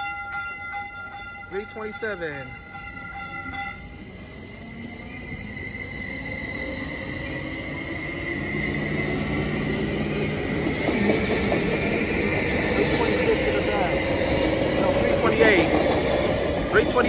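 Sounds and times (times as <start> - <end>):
electric train whine: 0.0 - 17.0
wheels rumbling on rails: 0.0 - 17.0.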